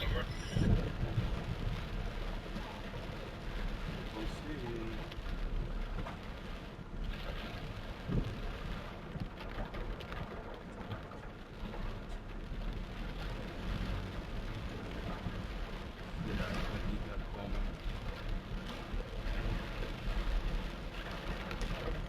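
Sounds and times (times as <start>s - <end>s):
deep low rumble: 0.0s - 22.0s
torrential rain hissing: 0.0s - 22.0s.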